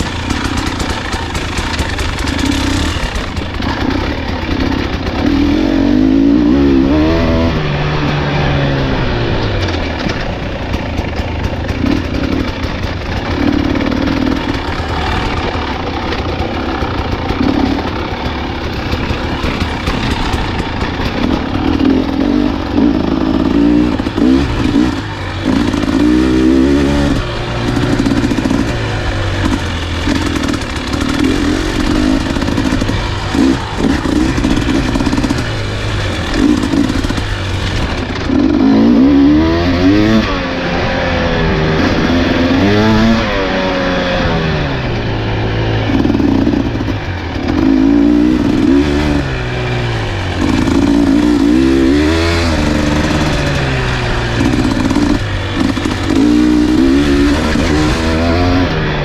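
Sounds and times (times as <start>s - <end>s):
rattles and scrapes: 0.0s - 6.4s, 7.1s - 41.0s, 44.9s - 59.0s
dirt bike engine running: 0.0s - 59.0s.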